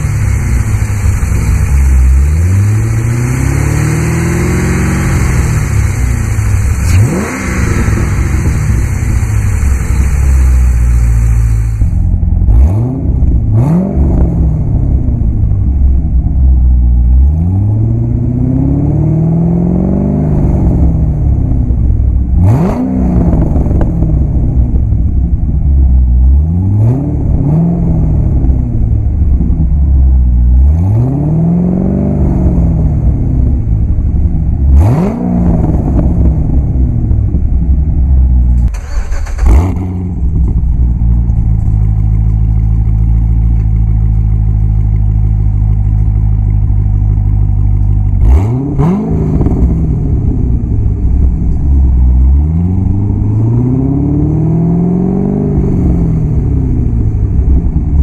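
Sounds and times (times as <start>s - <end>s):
car engine idling: 0.0s - 26.5s, 32.2s - 58.0s
car engine revving: 0.0s - 58.0s.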